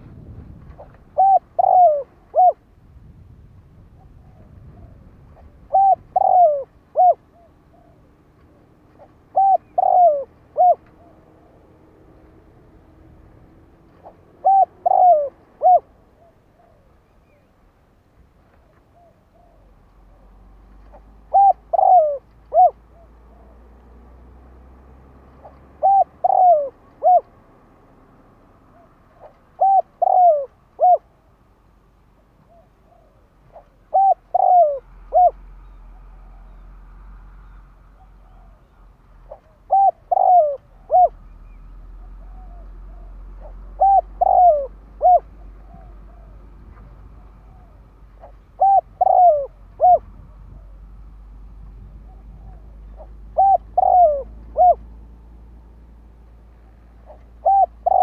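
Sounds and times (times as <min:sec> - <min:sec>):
dove cooing: 0:00.0 - 0:02.7, 0:03.9 - 0:17.5, 0:18.5 - 0:23.8, 0:25.0 - 0:31.3, 0:32.4 - 0:36.7, 0:37.4 - 0:50.9, 0:51.8 - 0:55.2, 0:56.9 - 0:58.0.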